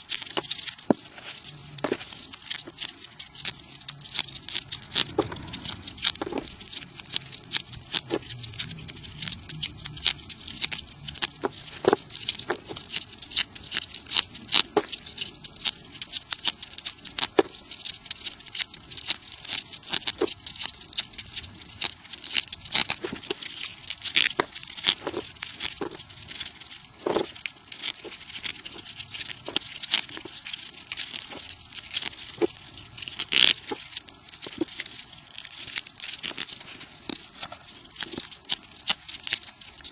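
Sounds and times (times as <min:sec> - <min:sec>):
folded paper rustling and crackling: 0:00.0 - 0:39.9.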